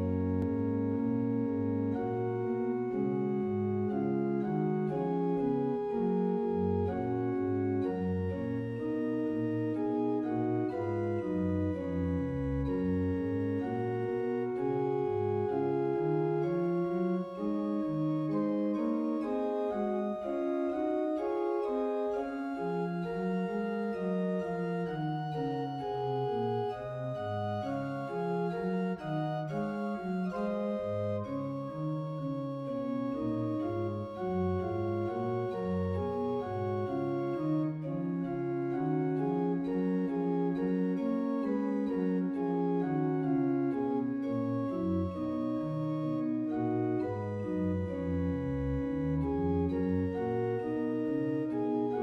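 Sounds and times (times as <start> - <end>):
pipe organ playing slow chords: 0.0 - 52.0.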